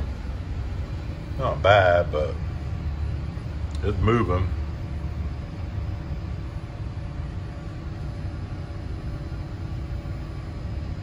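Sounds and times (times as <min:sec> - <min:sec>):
diesel engines rumbling: 0:00.0 - 0:11.0
faint steady hum: 0:00.0 - 0:11.0.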